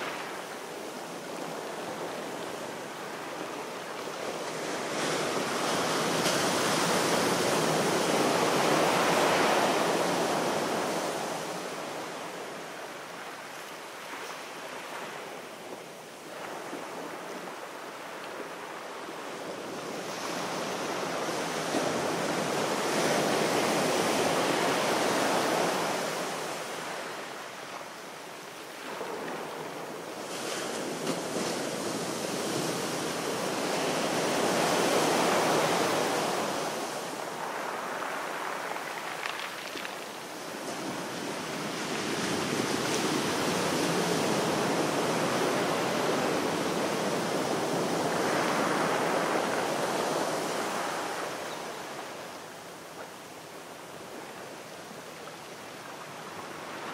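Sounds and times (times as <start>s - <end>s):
sea waves washing onto shore: 0.0s - 56.9s.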